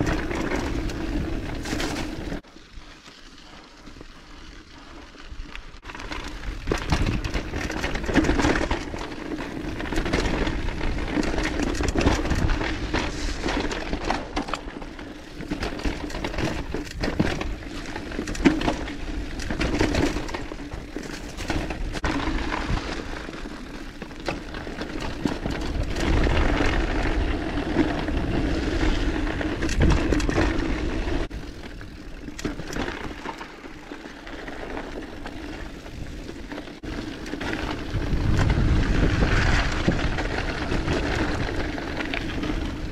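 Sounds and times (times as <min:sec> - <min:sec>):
bike rattling over bumps: 0:00.0 - 0:02.4, 0:04.4 - 0:42.9
bike tyres rolling on dirt: 0:00.0 - 0:42.9.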